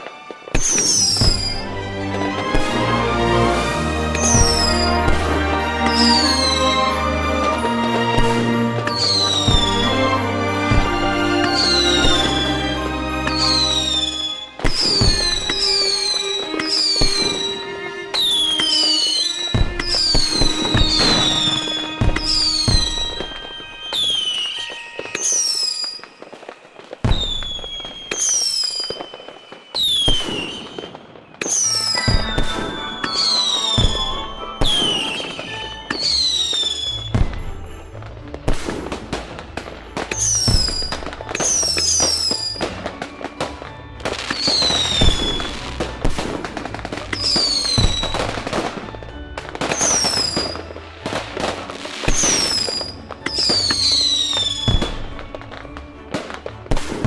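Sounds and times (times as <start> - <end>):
firework bangs and crackles: 0.0 - 57.0
firework whistles: 0.0 - 57.0.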